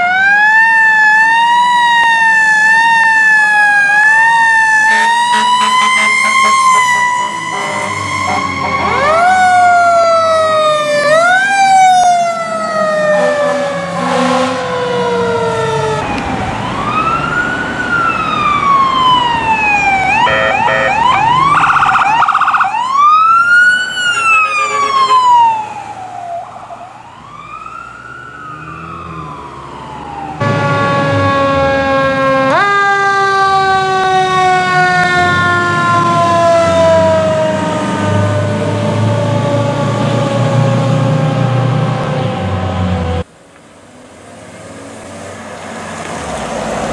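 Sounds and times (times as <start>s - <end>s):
emergency vehicle sirens: 0.0s - 46.9s.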